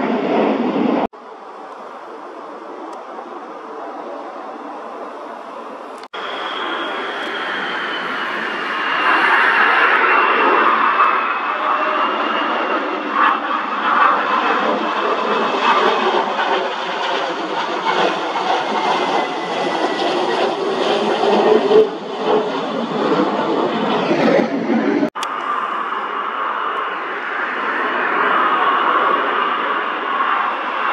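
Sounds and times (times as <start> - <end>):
jet engines passing overhead: 0.0 - 30.9.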